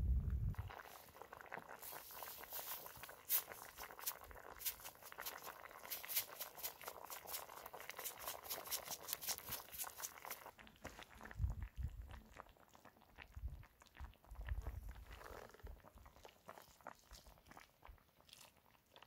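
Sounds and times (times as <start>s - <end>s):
stew boiling: 0.0s - 19.0s
fire pops and crackles: 0.3s - 18.2s.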